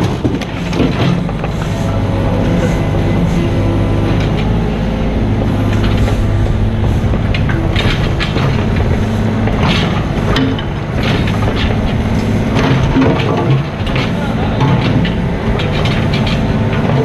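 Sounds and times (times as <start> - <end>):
clanks and scrapes: 0.0 - 4.7, 5.4 - 17.0
excavator diesel engine running: 0.0 - 17.0.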